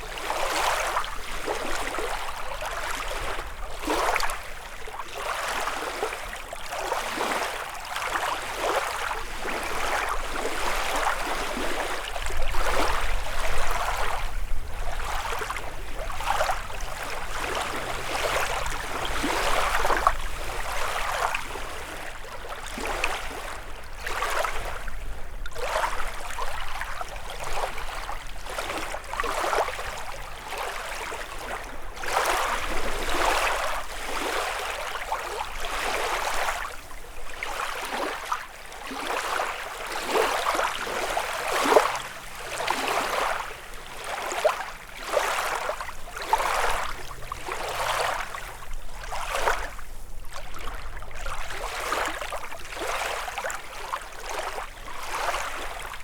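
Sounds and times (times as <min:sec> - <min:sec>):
small waves lapping shore: 0:00.0 - 0:56.0.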